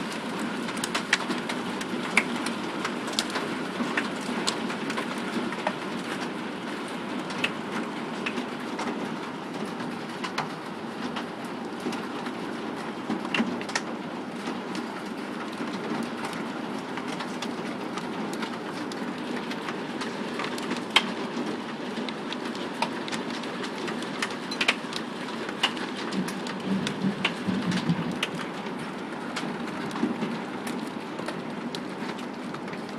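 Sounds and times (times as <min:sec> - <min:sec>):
hail and rain roaring: 0:00.0 - 0:32.9
hailstones clicking on hard surfaces: 0:00.0 - 0:32.9.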